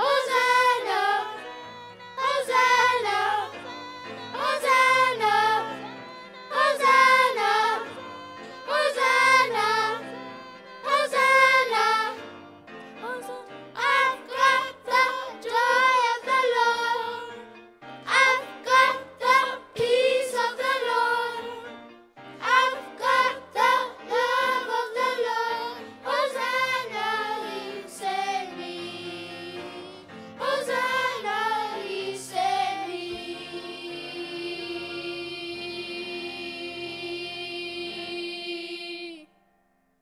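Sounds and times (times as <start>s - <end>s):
children's choir singing: 0.0s - 12.4s, 13.0s - 17.5s, 18.1s - 21.8s, 22.4s - 39.3s.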